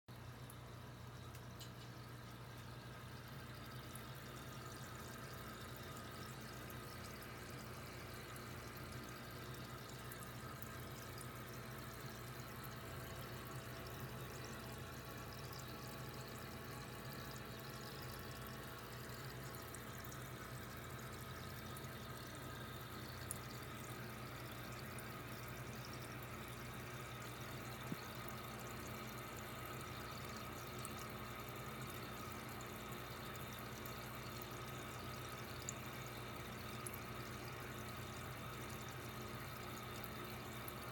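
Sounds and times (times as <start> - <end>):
low steady hum: 0.1 - 40.9
water trickling and bubbling: 0.1 - 40.9.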